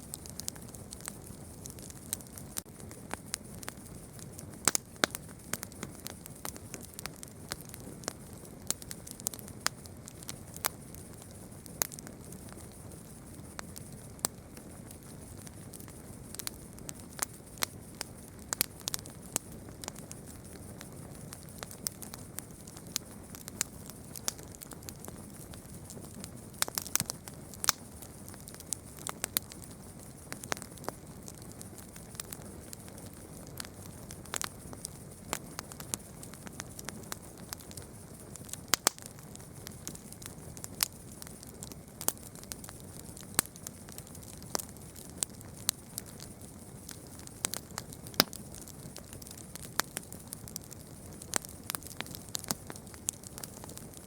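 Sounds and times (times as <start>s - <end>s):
campfire crackling and popping: 0.0s - 54.0s
flames rustling: 0.0s - 54.0s.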